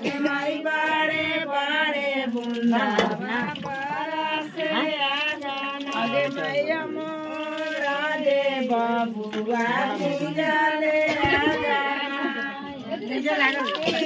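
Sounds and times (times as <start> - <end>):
women singing folk song: 0.0 - 14.0.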